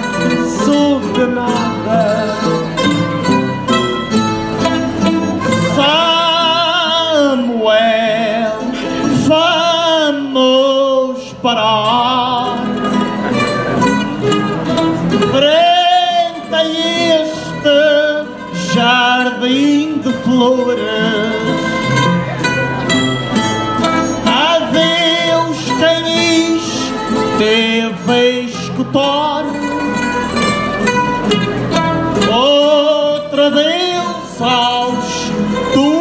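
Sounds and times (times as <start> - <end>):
man singing: 0.0 - 3.4, 5.4 - 13.5, 15.1 - 22.2, 24.0 - 30.3, 32.1 - 36.0
plucked guitars and mandolins: 0.0 - 36.0.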